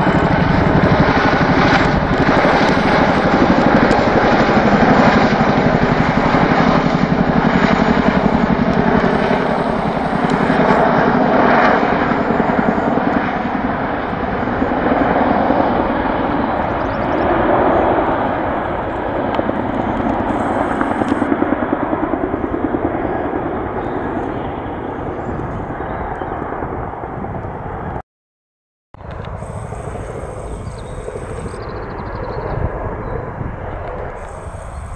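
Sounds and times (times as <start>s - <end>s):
helicopter rotors beating: 0.0s - 28.0s, 29.0s - 34.9s.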